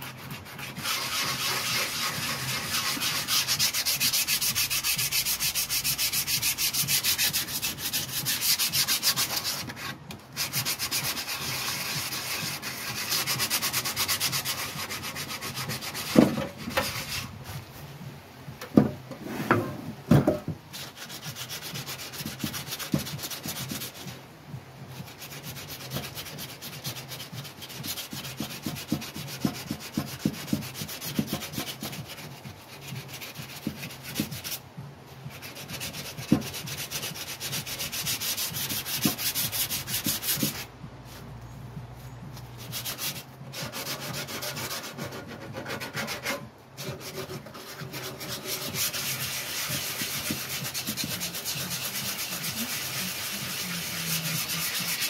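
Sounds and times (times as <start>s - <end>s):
rubbing and scraping on metal panel: 0.0s - 17.9s, 18.6s - 24.2s, 24.9s - 34.6s, 35.2s - 41.3s, 42.6s - 55.0s.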